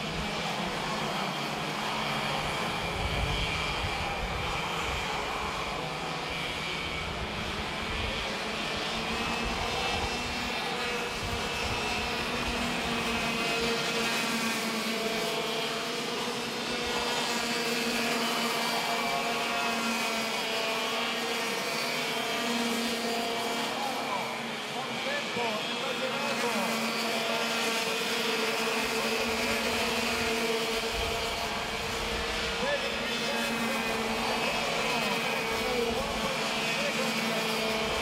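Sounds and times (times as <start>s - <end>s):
racing kart engines: 0.0s - 38.0s.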